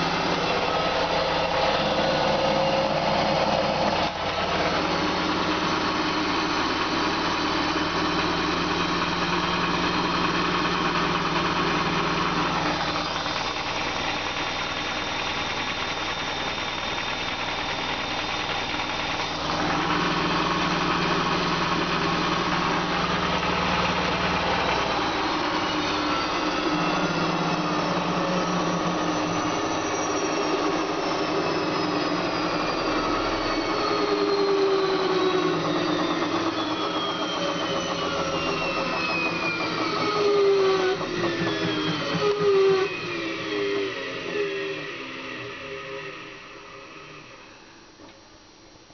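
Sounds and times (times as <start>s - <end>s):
washing machine spinning hum: 0.0s - 48.9s.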